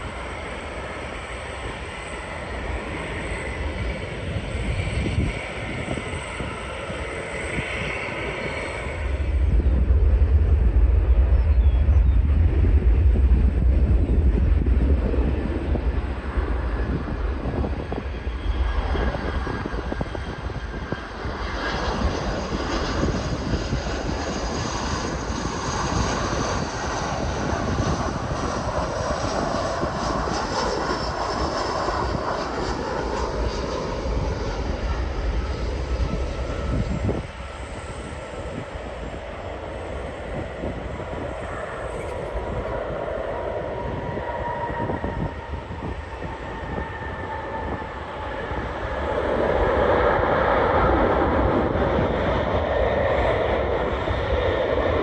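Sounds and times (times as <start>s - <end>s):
jet airliner engines passing: 0.0s - 55.0s.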